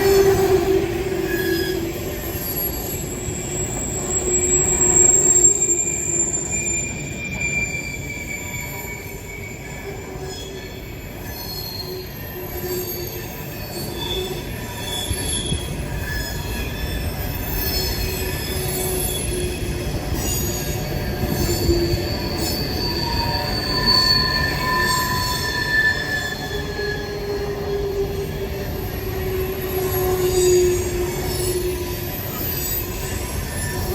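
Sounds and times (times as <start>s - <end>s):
train cars rumbling: 0.0s - 33.9s
train wheels squealing: 0.0s - 33.9s.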